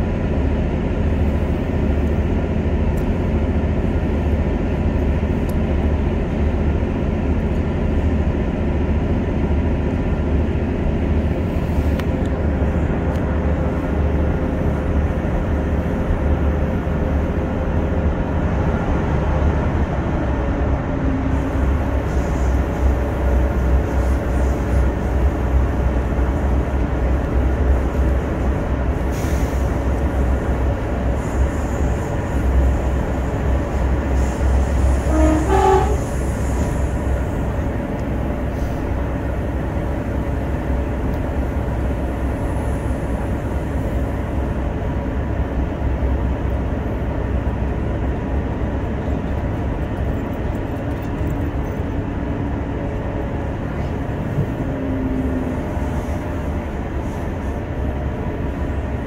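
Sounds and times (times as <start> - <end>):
train rumble and track noise: 0.0 - 59.0.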